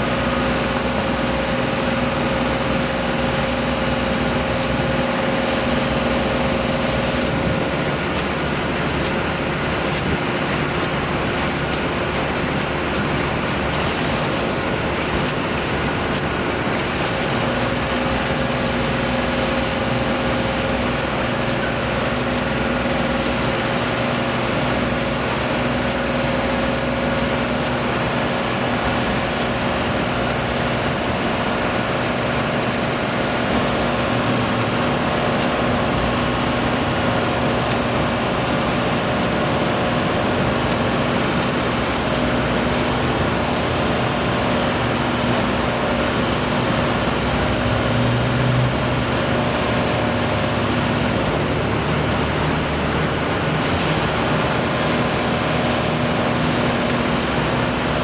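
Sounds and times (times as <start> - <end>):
engine running with constant hum: 0.0 - 58.0.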